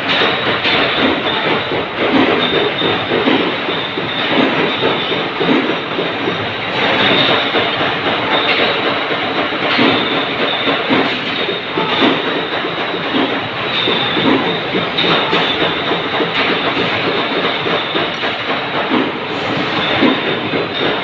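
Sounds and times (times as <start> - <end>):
threading machine metallic clatter: 0.0 - 21.0.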